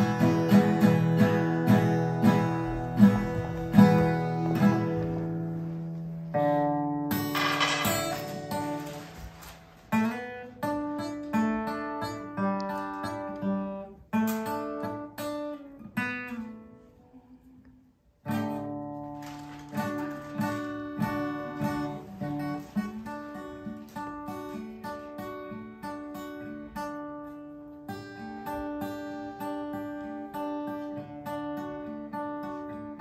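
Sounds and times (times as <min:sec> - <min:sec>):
acoustic guitar melody: 0:00.0 - 0:33.0.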